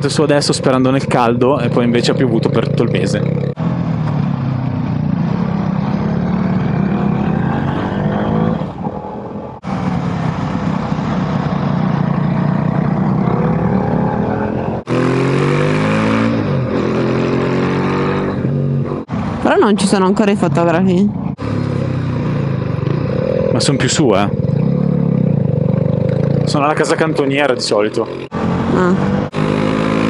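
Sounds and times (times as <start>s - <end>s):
motorcycle engine revving: 0.0s - 19.6s, 20.4s - 30.0s.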